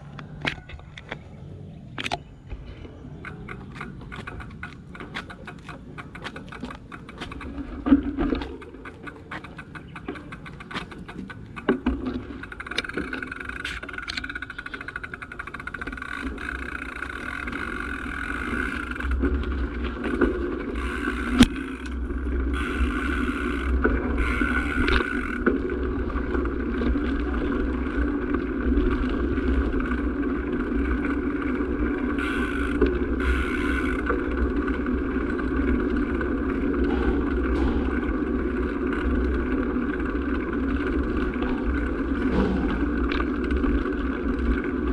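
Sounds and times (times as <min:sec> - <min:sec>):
vehicle engine running: 0:02.3 - 0:44.9.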